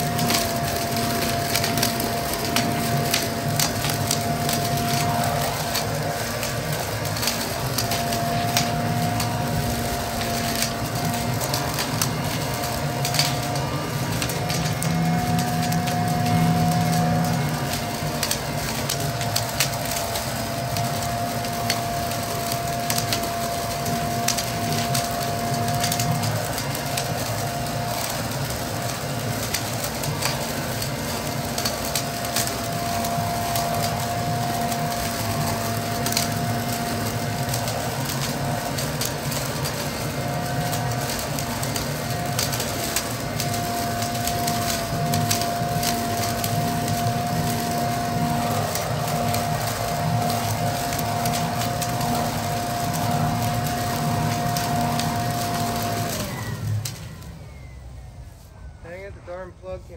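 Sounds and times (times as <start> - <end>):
leaves and twigs crackling: 0.0 - 58.7
blower vac motor whine: 0.0 - 59.9.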